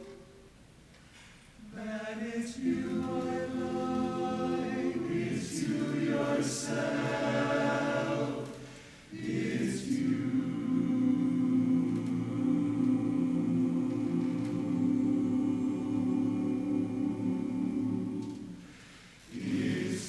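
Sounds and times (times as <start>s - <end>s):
chorus singing a cappella: 1.6s - 20.0s.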